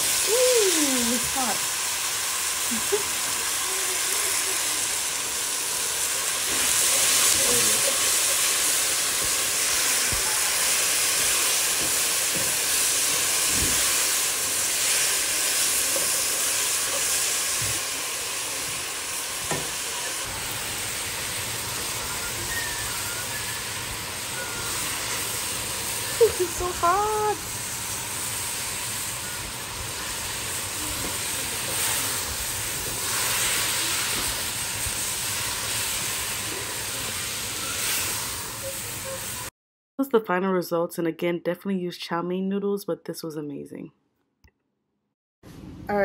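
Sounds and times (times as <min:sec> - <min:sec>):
vegetables sizzling in a pan: 0:00.0 - 0:39.5.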